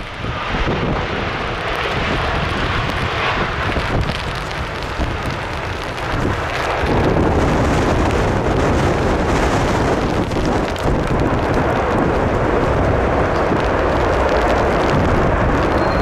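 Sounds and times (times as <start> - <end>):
jet engine roar: 0.0 - 16.0
wind buffeting microphone: 0.0 - 16.0.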